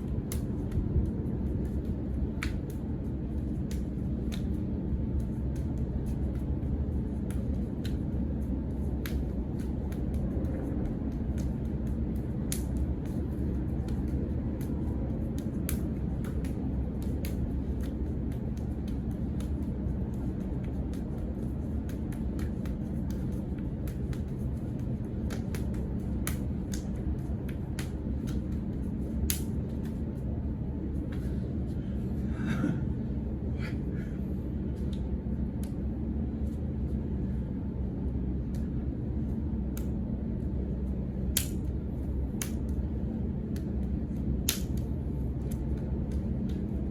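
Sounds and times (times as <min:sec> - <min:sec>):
hands slapping forearms: 0:00.0 - 0:31.8, 0:34.7 - 0:36.0, 0:38.3 - 0:46.9
low room rumble: 0:00.0 - 0:46.9.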